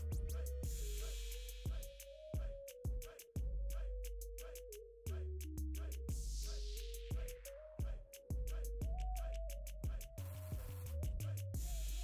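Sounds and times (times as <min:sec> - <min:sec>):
bass line: 0:00.0 - 0:02.6, 0:03.4 - 0:12.0
hi-hat ticks: 0:00.0 - 0:12.0.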